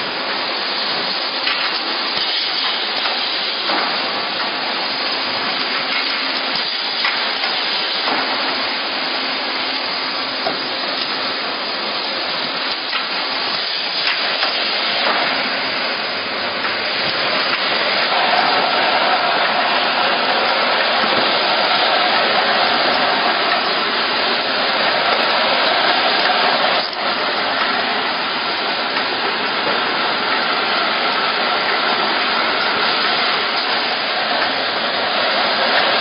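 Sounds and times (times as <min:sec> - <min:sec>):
hot-air blower hissing: 0:00.0 - 0:36.0.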